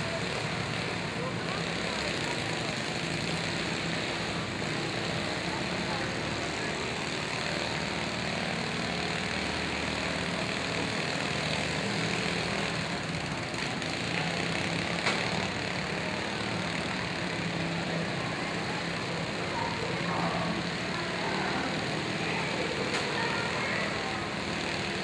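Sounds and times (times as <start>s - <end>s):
lawn mower engines droning: 0.0s - 25.0s.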